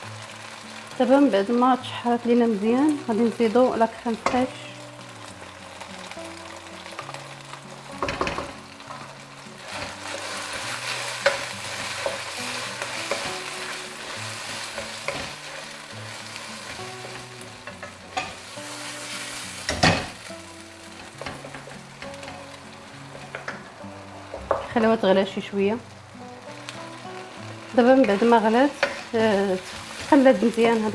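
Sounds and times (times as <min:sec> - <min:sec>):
filling sizzling in a frying pan: 0:00.0 - 0:30.9.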